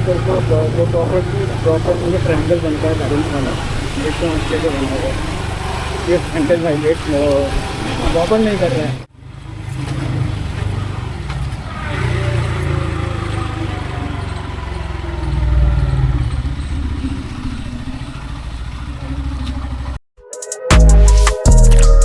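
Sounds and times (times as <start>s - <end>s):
motorcycle engine rumbling: 0.0s - 20.0s
road traffic: 0.0s - 20.0s.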